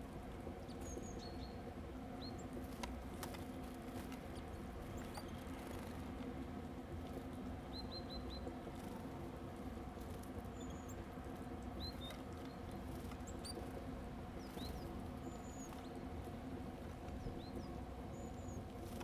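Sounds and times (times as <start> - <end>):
small birds chirping: 0.6 - 6.1, 7.6 - 9.1, 10.0 - 19.0.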